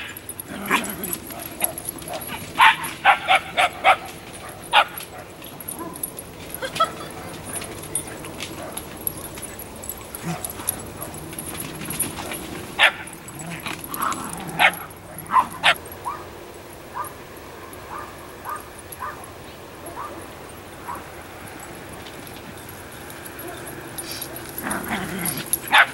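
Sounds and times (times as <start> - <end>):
dogs barking: 0.0 - 25.9
dogs yipping: 0.0 - 25.9.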